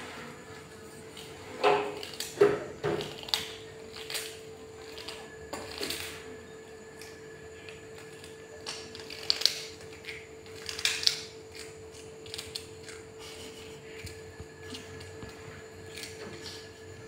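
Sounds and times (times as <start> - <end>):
faint hum: 0.0 - 17.0
cat chewing crunchy food: 0.1 - 17.0.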